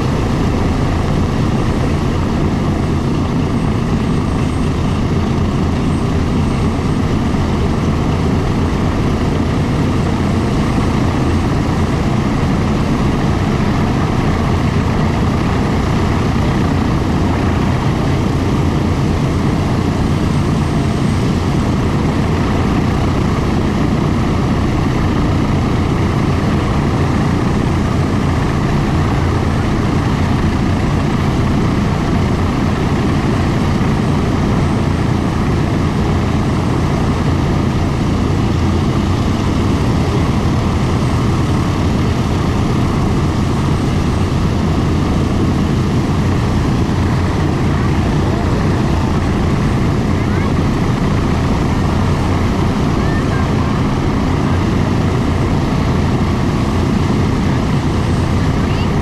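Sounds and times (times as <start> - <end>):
aircraft radial engines droning: 0.0 - 59.0.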